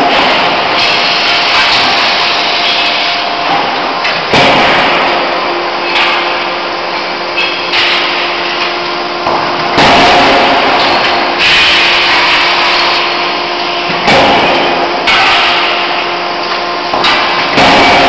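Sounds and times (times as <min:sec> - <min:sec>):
forge machinery noise: 0:00.0 - 0:18.0
thin steady whine: 0:00.0 - 0:18.0.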